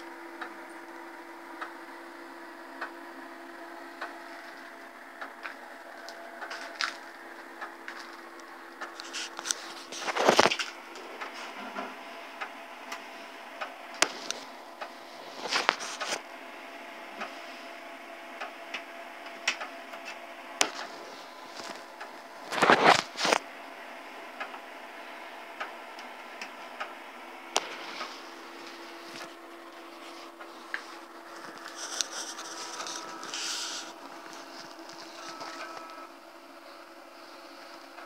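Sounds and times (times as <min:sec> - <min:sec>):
floppy disk drive clicks: 0:00.0 - 0:23.5, 0:24.3 - 0:38.0
floppy drive scratching: 0:00.0 - 0:23.5, 0:24.3 - 0:38.0
computer fan hum: 0:00.0 - 0:38.0.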